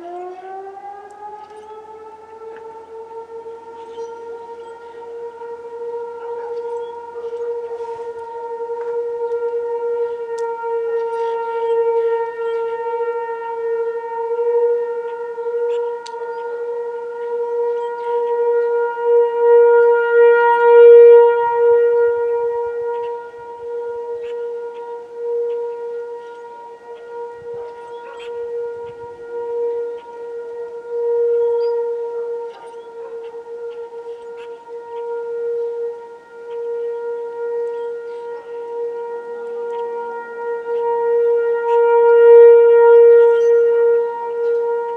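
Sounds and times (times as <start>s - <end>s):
tornado siren steady tone: 0.0s - 44.9s.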